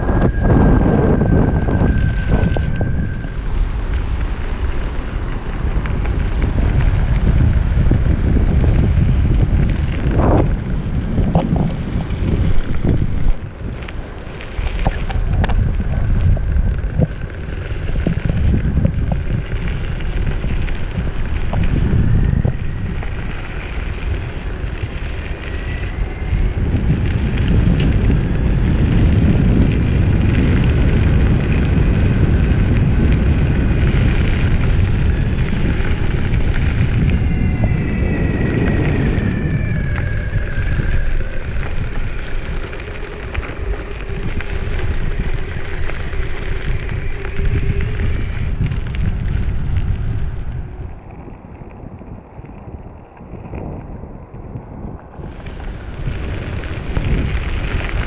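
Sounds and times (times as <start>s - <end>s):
wheels rolling over gravel: 0.0s - 58.0s
wind buffeting microphone: 0.0s - 58.0s.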